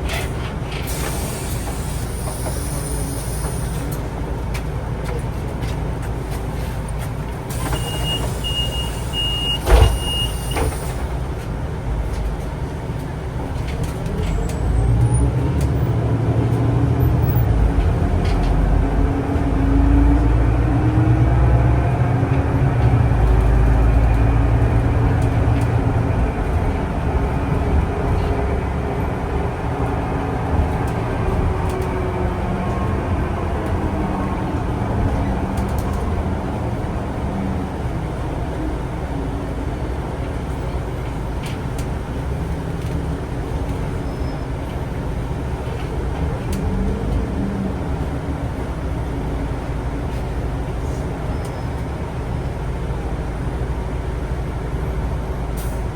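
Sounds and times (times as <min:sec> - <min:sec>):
bus engine rumble and whine: 0:00.0 - 0:55.9.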